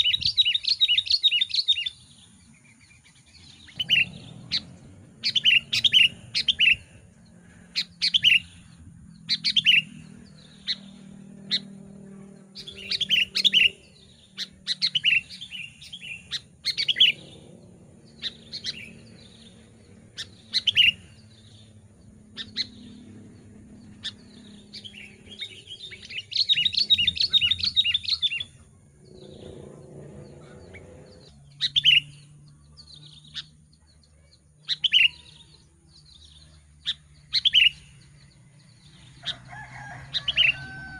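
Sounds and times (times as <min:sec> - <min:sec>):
bulbul singing: 0:00.0 - 0:40.9.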